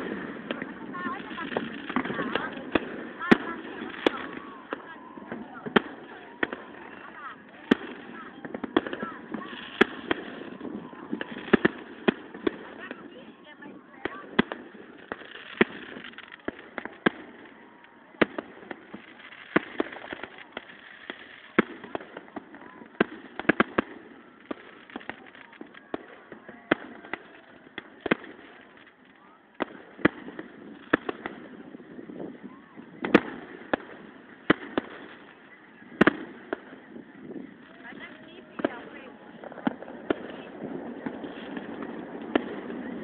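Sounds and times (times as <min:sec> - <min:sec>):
fireworks bangs and pops: 0:00.0 - 0:43.0.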